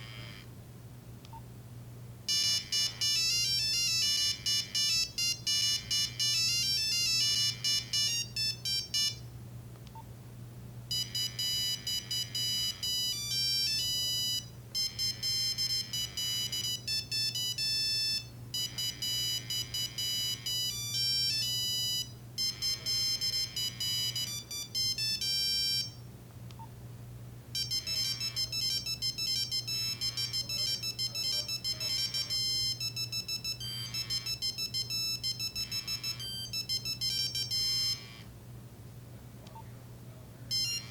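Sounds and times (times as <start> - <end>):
monophonic phone ringtone melody: 2.3 - 9.2, 10.9 - 26.0, 27.6 - 38.3, 40.5 - 40.9.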